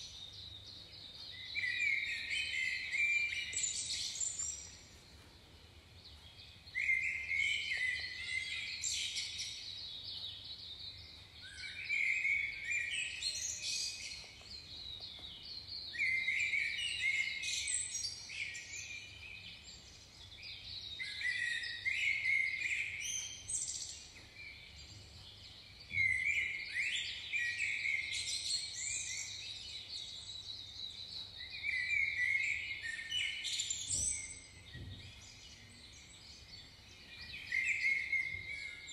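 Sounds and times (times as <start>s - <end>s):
birdsong chirps: 0.0s - 38.9s.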